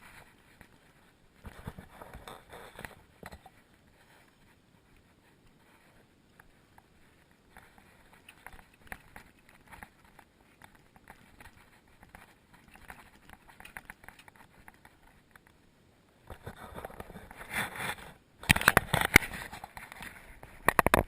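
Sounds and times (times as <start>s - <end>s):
faint clicks and scuffs: 0.0s - 21.0s.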